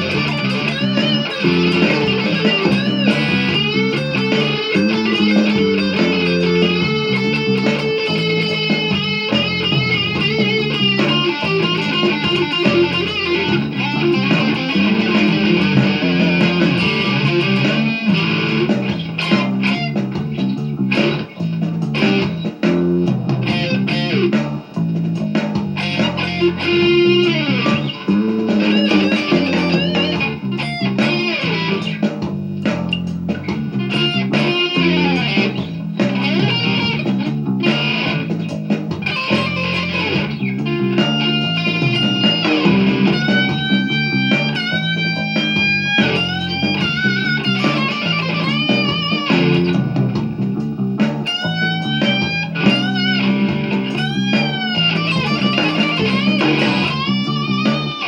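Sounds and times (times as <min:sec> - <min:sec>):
instrumental rock music: 0:00.0 - 0:58.0.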